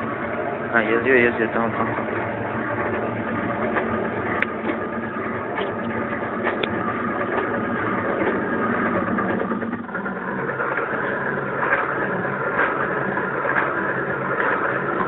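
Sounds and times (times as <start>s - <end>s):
cnc machine motor running: 0.0s - 15.0s.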